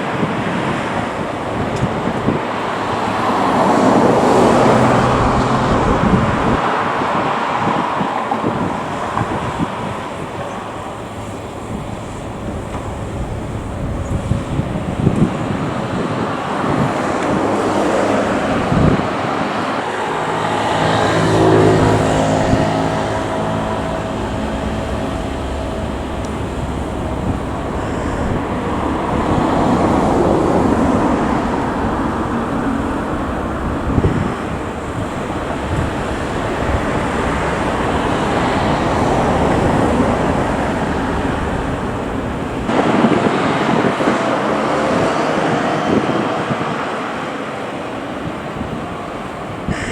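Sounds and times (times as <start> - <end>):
diesel engine of heavy machine: 0.0 - 49.9.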